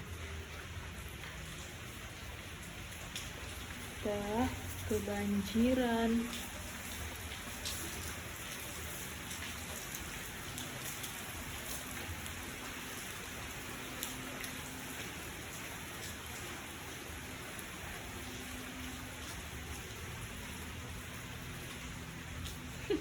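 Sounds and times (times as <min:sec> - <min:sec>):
rain pattering on surfaces: 0:00.0 - 0:23.0.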